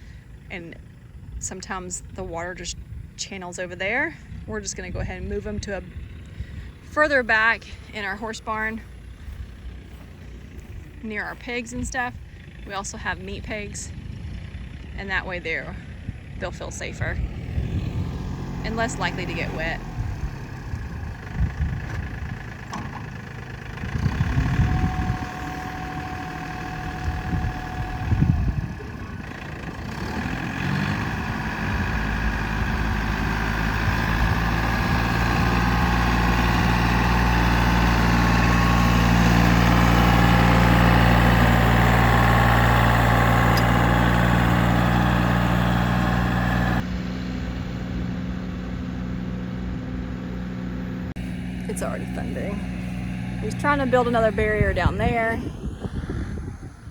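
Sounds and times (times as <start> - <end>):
low rumbles: 0.0 - 56.9
tractor engine running: 0.0 - 56.9.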